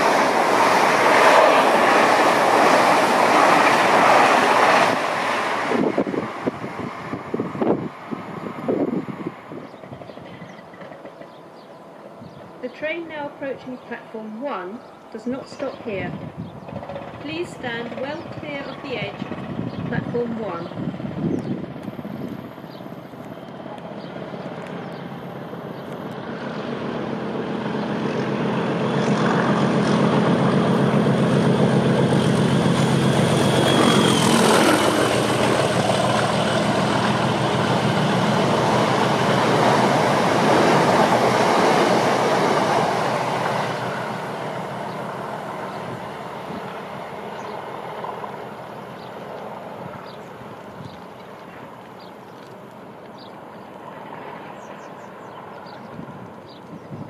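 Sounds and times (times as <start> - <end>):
train wheels on rails: 0.0 - 12.6, 16.6 - 54.8
diesel locomotive engine drone: 0.0 - 57.0.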